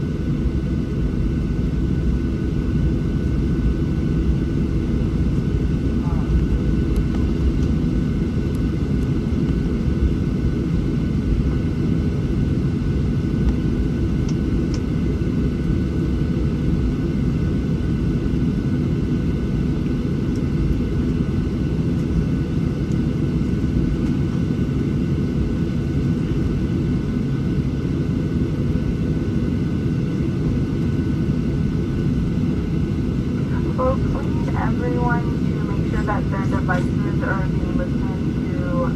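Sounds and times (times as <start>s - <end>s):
faint steady whine: 0.0s - 14.9s, 19.2s - 38.9s
airplane cabin rumble: 0.0s - 38.9s.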